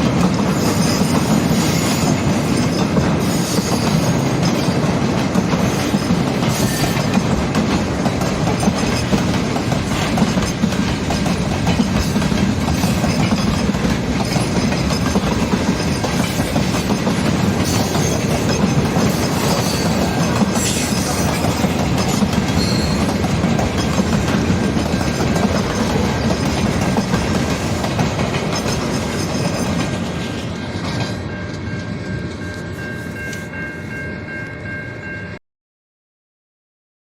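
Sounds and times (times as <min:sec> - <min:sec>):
freight train wheels clattering: 0:00.0 - 0:33.7
train rumble: 0:00.0 - 0:35.2.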